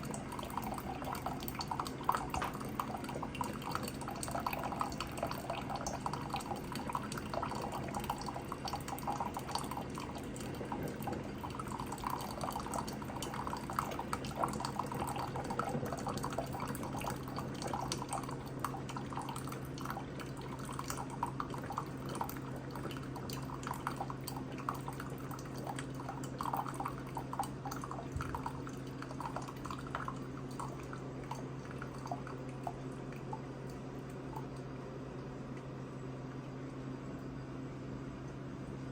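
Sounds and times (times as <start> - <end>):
water dripping and gurgling: 0.0 - 35.7
coffee maker low hum: 0.0 - 38.9.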